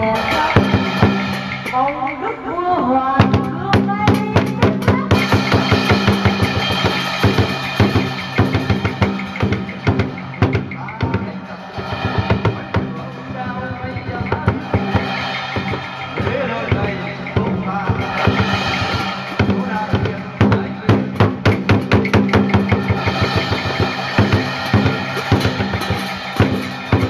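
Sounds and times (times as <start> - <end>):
drum and cymbal strokes: 0.0 - 27.0.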